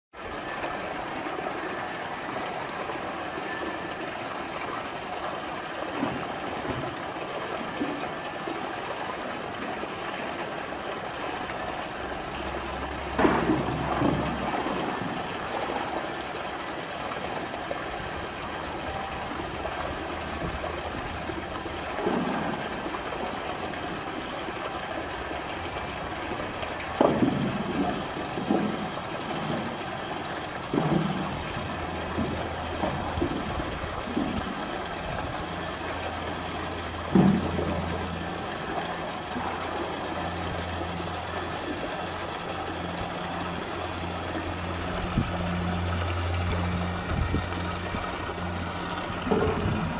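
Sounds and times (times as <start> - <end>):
water splashing and sloshing: 0.1 - 49.9.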